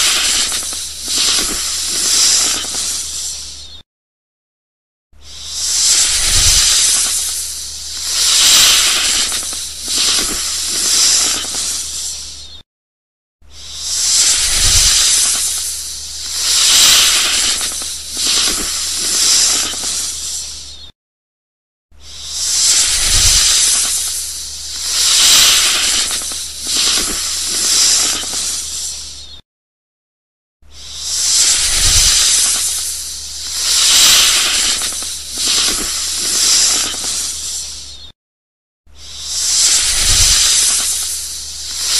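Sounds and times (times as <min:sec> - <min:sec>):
snake hissing: 0:00.0 - 0:03.8, 0:05.2 - 0:12.6, 0:13.4 - 0:20.9, 0:21.9 - 0:29.4, 0:30.6 - 0:38.2, 0:38.9 - 0:41.9.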